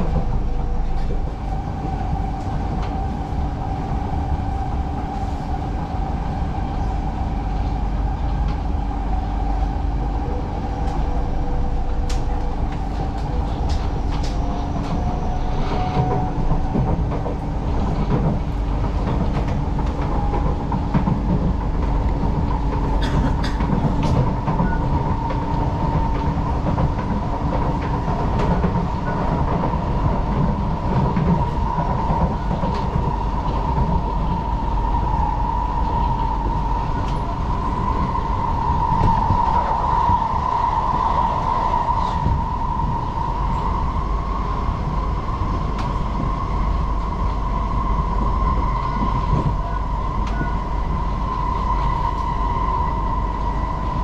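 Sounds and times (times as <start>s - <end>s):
high train whine: 0.0s - 54.0s
train wheels rumbling on rail: 0.0s - 54.0s.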